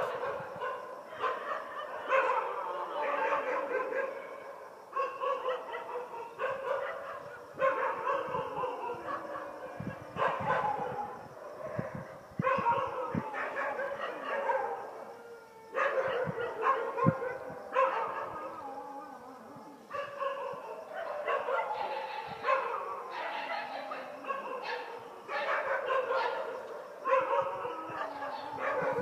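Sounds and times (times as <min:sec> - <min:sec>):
dogs barking: 0:00.0 - 0:15.2, 0:15.8 - 0:18.6, 0:19.9 - 0:29.0.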